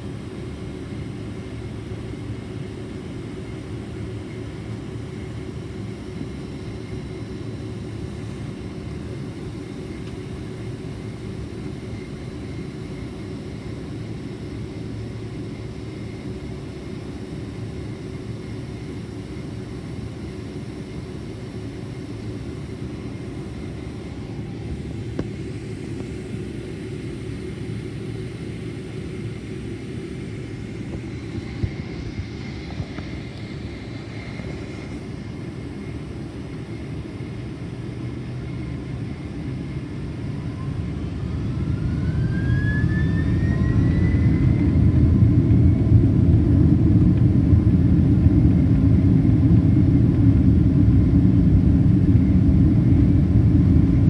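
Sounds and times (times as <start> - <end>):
airplane cabin engine rumble: 0.0 - 54.0
faint steady whine: 0.0 - 54.0.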